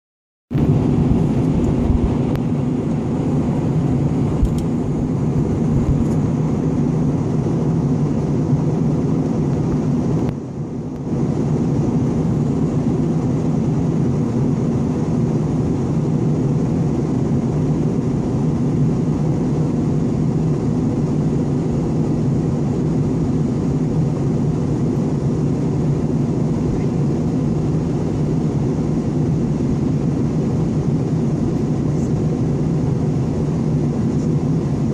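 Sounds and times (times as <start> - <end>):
airliner cabin drone: 0.5 - 34.9.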